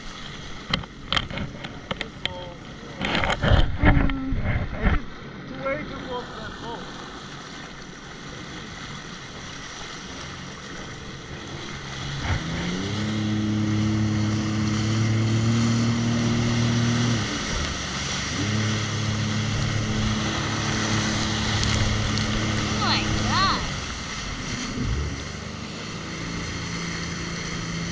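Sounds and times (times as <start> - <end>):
water noise: 0.0 - 27.9
wind: 0.0 - 27.9
jet ski engine revving: 5.2 - 27.9.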